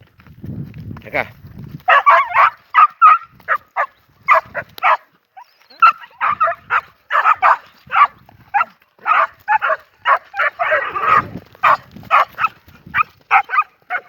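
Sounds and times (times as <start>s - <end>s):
dog barking rapidly: 1.9s - 5.1s, 5.8s - 14.0s.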